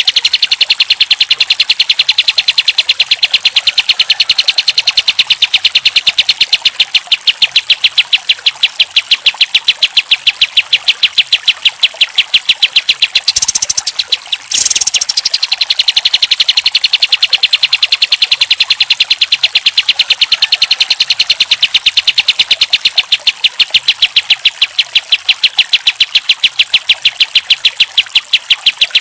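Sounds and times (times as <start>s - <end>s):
bird chirping rapidly: 0.0s - 29.0s.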